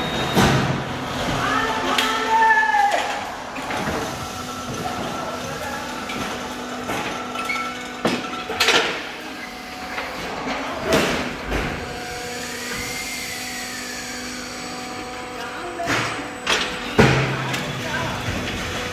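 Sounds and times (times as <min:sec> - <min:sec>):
machine whine: 0:00.0 - 0:18.9
machinery humming: 0:00.0 - 0:18.9.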